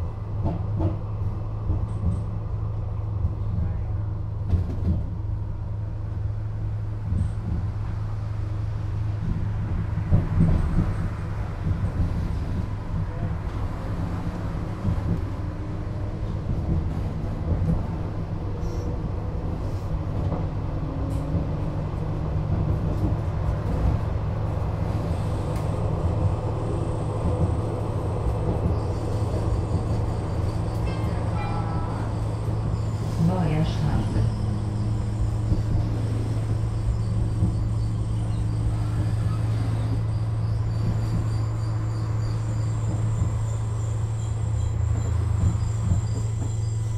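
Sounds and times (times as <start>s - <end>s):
light-rail car wheels rumbling: 0.0s - 46.9s.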